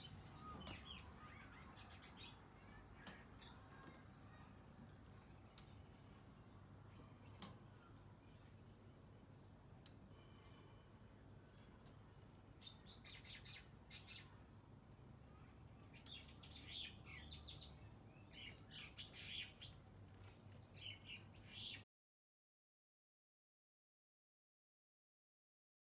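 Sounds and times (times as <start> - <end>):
faint birds chirping: 0.0 - 21.8
low steady hum: 0.0 - 21.8.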